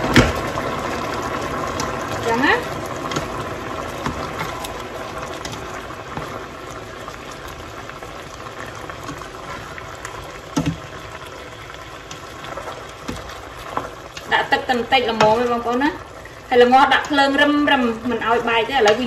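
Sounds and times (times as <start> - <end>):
sauce bubbling in a pot: 0.0 - 19.0
spatula stirring and scraping: 1.7 - 19.0.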